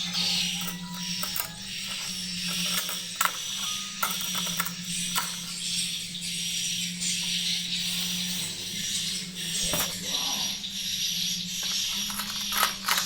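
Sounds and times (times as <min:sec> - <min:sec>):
steady low hum: 0:00.0 - 0:13.0
swiftlets chirring and clicking: 0:00.0 - 0:13.0.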